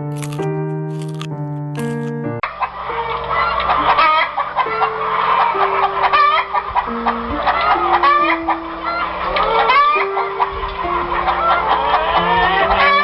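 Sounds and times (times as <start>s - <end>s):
background music with held notes: 0.0s - 13.0s
chickens clucking: 2.4s - 13.0s.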